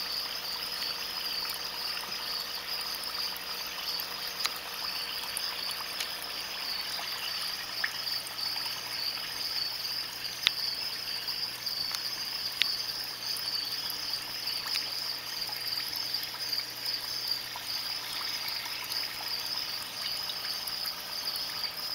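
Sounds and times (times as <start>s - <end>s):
water bubbling and trickling: 0.0s - 21.9s.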